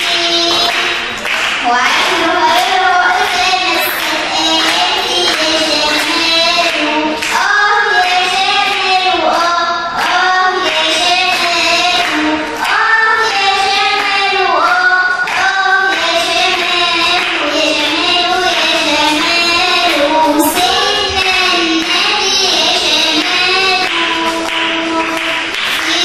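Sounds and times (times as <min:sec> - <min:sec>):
girl singing: 0:00.0 - 0:26.0
hands clapping: 0:00.0 - 0:26.0.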